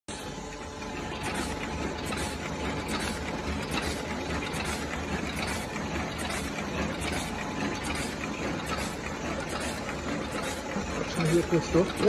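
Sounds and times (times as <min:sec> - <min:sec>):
machine low hum: 0:00.1 - 0:12.0
packing machine clicking rapidly: 0:00.8 - 0:12.0.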